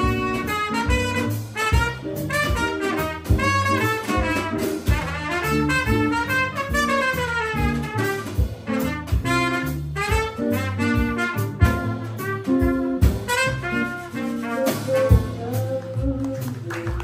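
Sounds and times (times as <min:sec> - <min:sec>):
trumpet lead line: 0:00.0 - 0:16.1
drum kit: 0:00.0 - 0:17.0
upright bass: 0:00.0 - 0:17.0.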